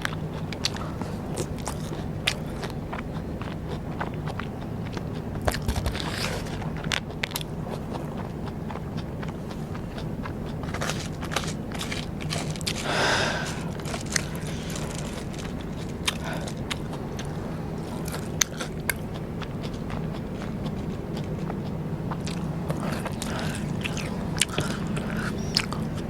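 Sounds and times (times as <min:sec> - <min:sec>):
chewing rice paper snacks: 0:00.0 - 0:26.0
sharp crunchy clicks: 0:00.0 - 0:26.0
wet mouth sounds: 0:00.0 - 0:26.0.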